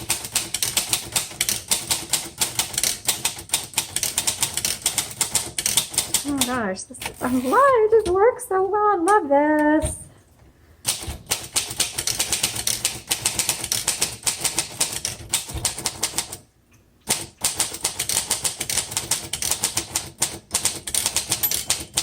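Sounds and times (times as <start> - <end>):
manual typewriter typing: 0.0 - 8.3, 10.8 - 16.4, 17.1 - 22.0.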